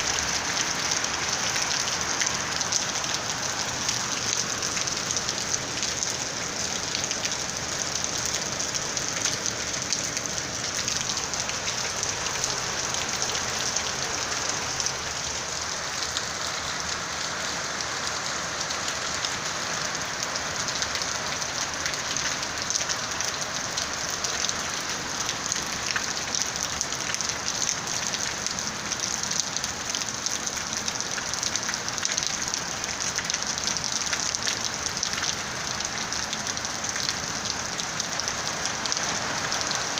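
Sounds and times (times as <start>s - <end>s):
heavy rain on a rooftop: 0.0s - 39.9s.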